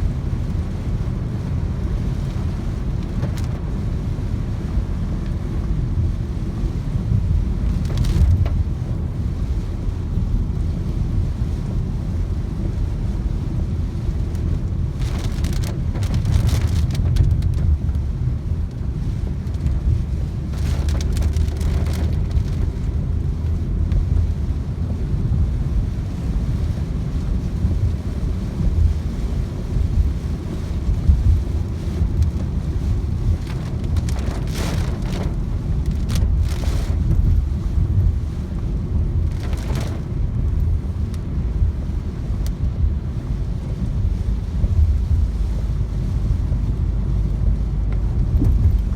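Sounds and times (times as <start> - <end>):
heavy rain: 0.0 - 48.9
wind buffeting microphone: 0.0 - 48.9.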